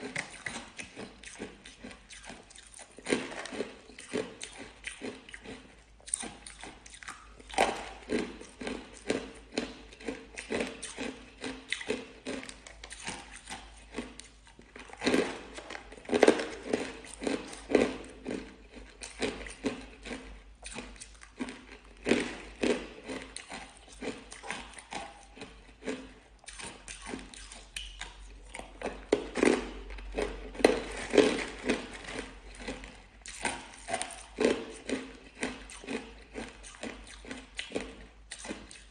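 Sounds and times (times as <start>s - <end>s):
ice being crunched and chewed: 0.0s - 38.9s.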